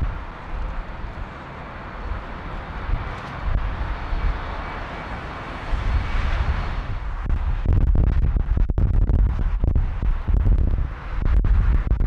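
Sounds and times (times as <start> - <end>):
distant jet engines roaring: 0.0 - 12.0
wind buffeting microphone: 0.0 - 12.0.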